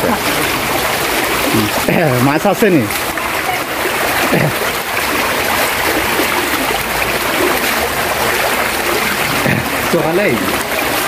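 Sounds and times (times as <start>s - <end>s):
floodwater rushing through channel: 0.0s - 11.0s
water splashing through net: 0.0s - 11.0s.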